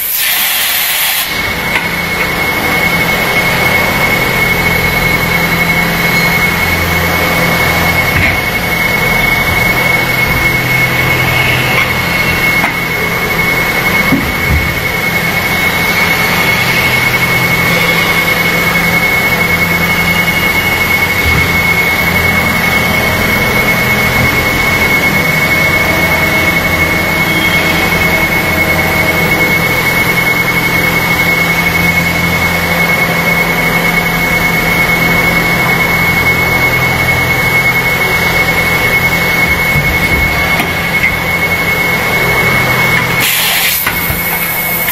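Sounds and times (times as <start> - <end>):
high machine whine: 0.0 - 44.9
machine mechanical drone: 0.0 - 44.9.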